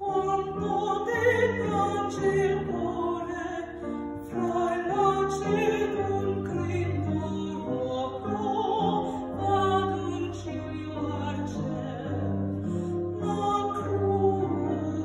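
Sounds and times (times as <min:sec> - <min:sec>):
woman singing operatically: 0:00.0 - 0:15.0.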